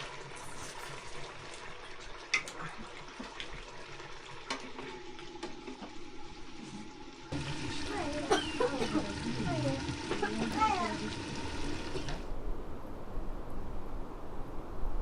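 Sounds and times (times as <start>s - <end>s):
water running: 0.0s - 12.3s.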